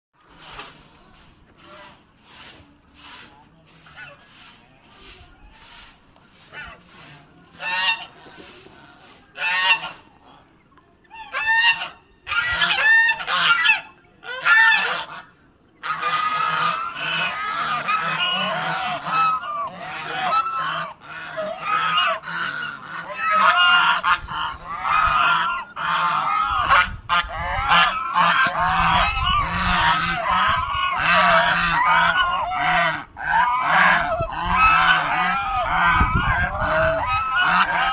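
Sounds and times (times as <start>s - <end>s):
poultry calling: 1.6s - 37.9s.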